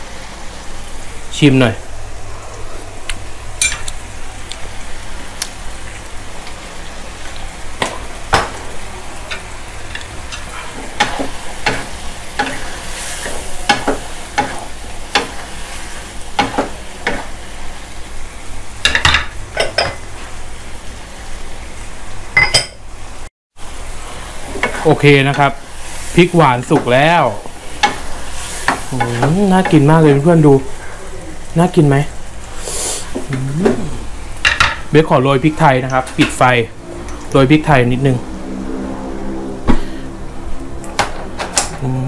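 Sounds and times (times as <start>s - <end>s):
food sizzling in a wok: 0.0s - 37.7s.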